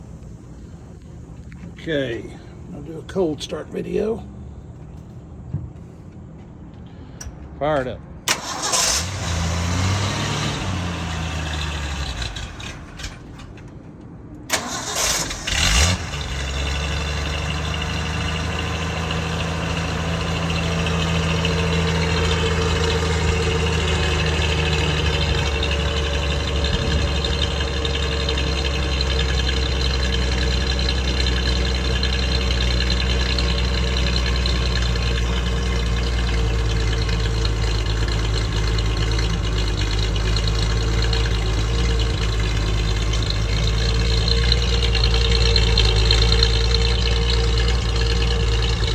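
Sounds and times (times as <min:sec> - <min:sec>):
car engine cranking and idling: 0:00.0 - 0:48.9.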